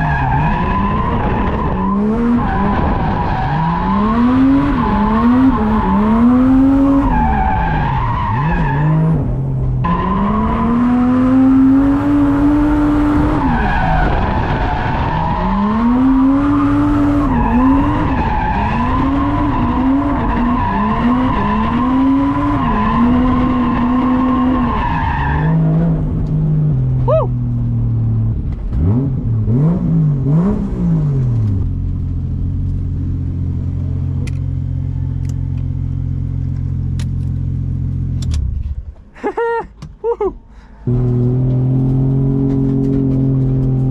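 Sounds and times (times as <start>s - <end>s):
car engine revving: 0.0s - 39.0s, 40.8s - 43.9s
tyres skidding: 0.0s - 43.9s.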